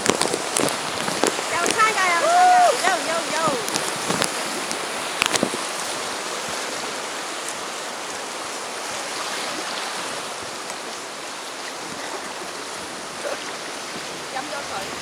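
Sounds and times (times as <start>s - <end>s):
rushing river water: 0.0s - 15.0s.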